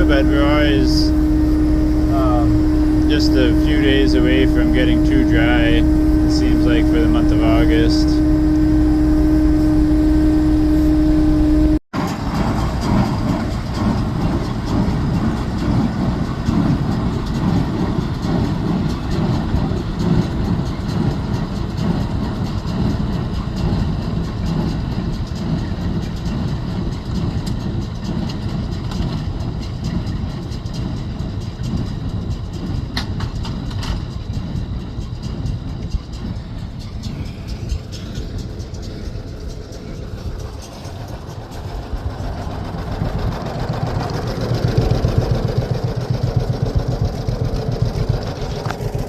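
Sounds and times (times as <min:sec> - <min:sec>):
baler mechanical clatter: 0:00.0 - 0:49.0
tractor engine drone: 0:00.0 - 0:49.0.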